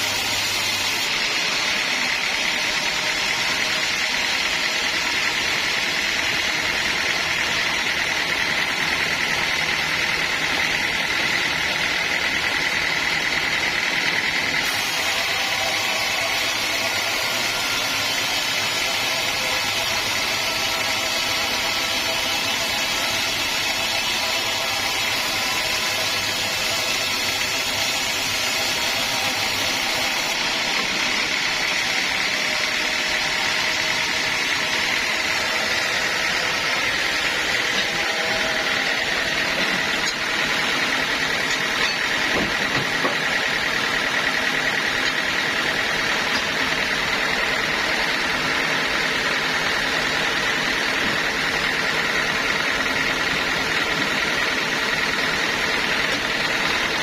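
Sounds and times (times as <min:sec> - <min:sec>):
high even whine: 0:00.0 - 0:50.2
sawmill running: 0:00.0 - 0:57.0.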